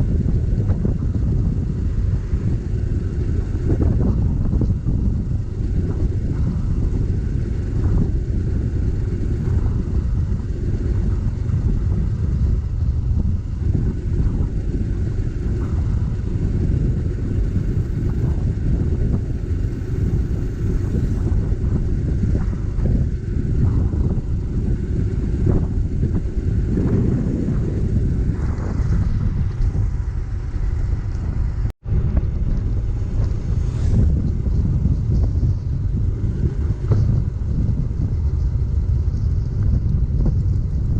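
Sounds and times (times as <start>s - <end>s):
motorcycle engine: 0.0s - 40.9s
road noise: 0.0s - 40.9s
wind buffeting microphone: 0.0s - 40.9s.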